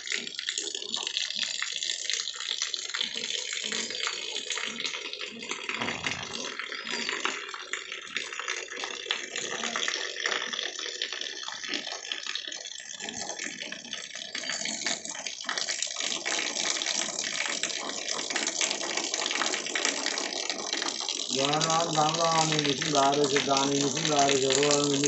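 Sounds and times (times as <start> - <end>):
rain pattering: 0.0 - 25.0
water stream splashing on metal sheet: 0.0 - 25.0.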